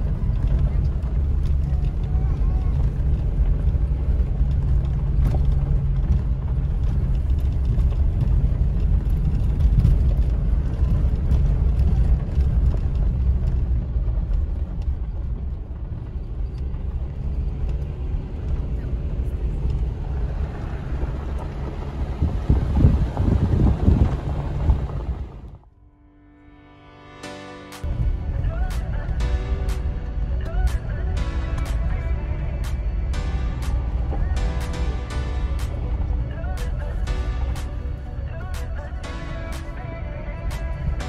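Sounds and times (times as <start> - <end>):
engine and tyres on gravel: 0.0 - 25.8, 27.7 - 41.0.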